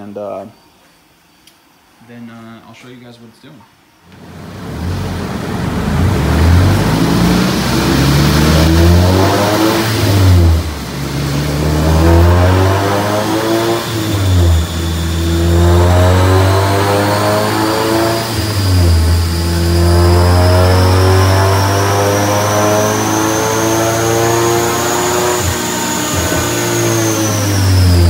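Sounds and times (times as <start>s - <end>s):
turbocharged car engine revving: 4.2s - 28.0s.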